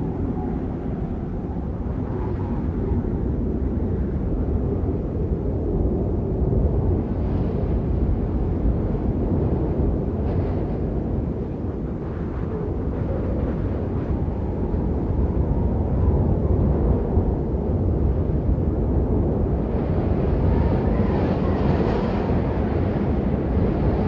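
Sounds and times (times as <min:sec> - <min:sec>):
blizzard wind rushing: 0:00.0 - 0:24.0
faint wind howling: 0:00.0 - 0:24.0.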